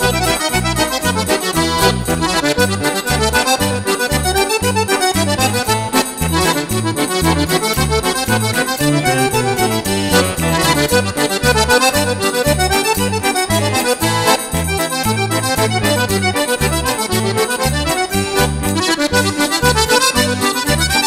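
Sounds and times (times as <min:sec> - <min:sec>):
instrumental music with beat: 0:00.0 - 0:21.0.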